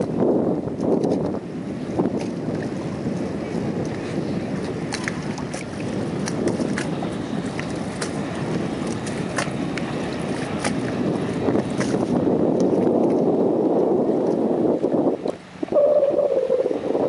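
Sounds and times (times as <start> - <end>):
boat engine and wake rushing: 0.0 - 17.0
wind and water clicks on microphone: 0.0 - 17.0.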